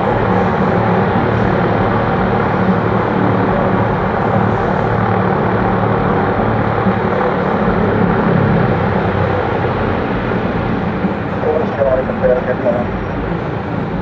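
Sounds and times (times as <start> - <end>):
propeller aircraft engines running: 0.0 - 14.0.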